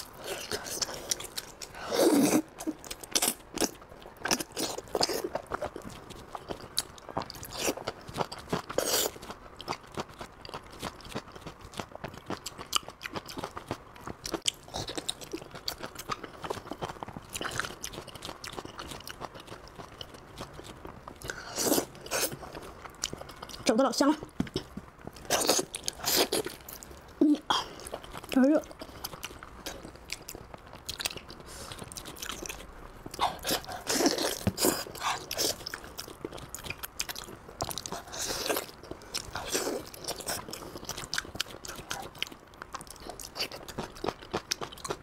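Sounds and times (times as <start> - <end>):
person chewing with mouth smacks: 0.0 - 45.0.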